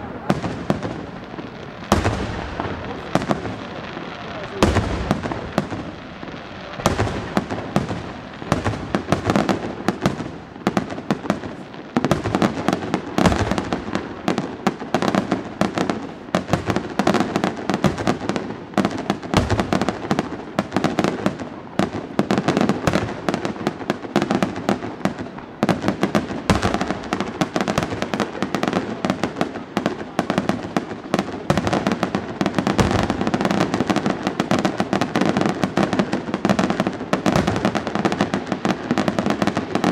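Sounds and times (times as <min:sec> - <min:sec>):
firework booms: 0:00.0 - 0:39.9
firework crackling: 0:00.0 - 0:39.9.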